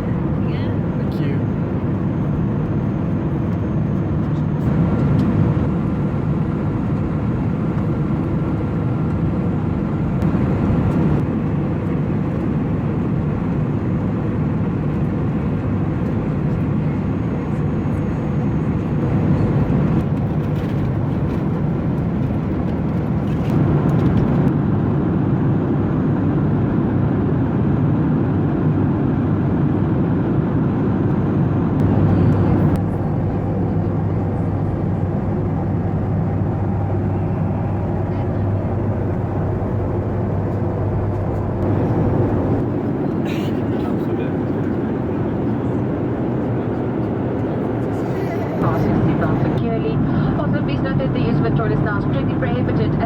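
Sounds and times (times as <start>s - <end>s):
airplane cabin engine hum: 0.0s - 53.0s.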